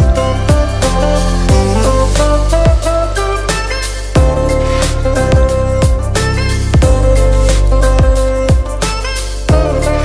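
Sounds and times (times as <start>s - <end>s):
drum beat: 0.0s - 6.2s, 6.8s - 9.9s
instrumental background music: 0.0s - 10.0s.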